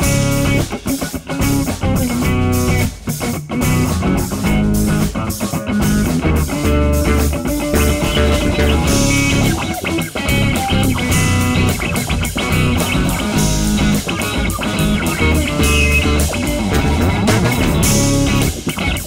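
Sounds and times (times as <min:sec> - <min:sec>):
electric bass line: 0:00.0 - 0:19.0
electric guitar leading: 0:00.0 - 0:19.0.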